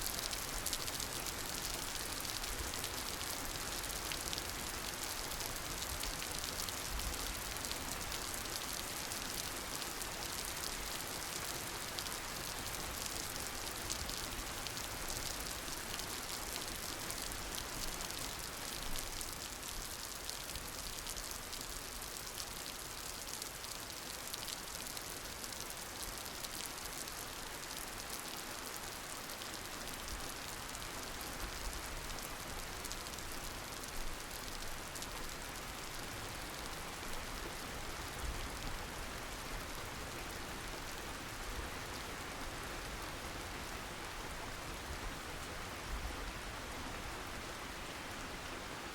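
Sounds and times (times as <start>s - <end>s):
steady rain pattering: 0.0s - 48.9s.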